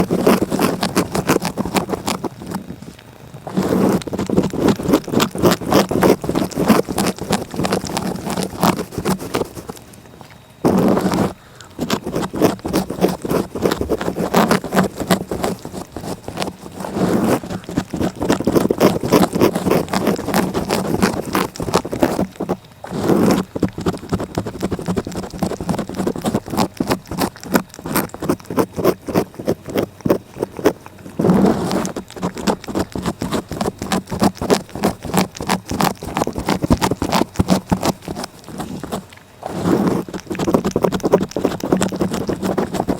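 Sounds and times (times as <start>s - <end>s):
cat licking: 0.0s - 42.9s.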